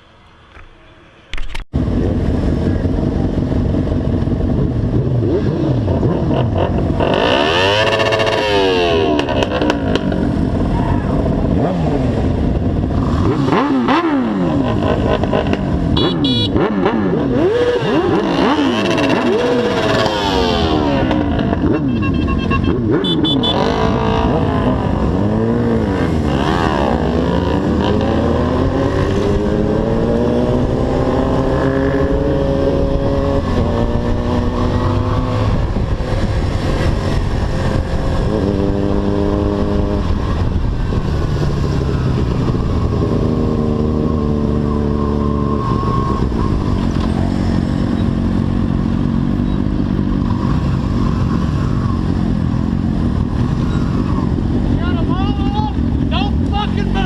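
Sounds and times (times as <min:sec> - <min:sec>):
motorcycle engine revving: 0:01.9 - 0:57.0.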